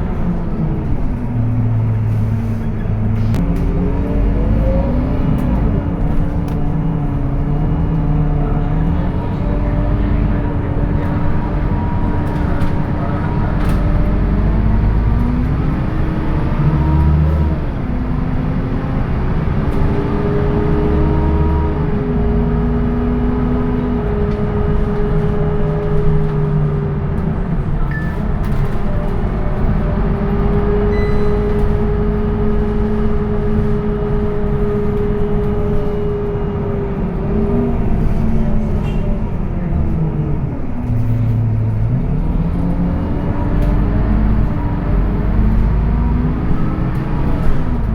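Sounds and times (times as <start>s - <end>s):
bus diesel engine pulling away: 0.0s - 47.9s.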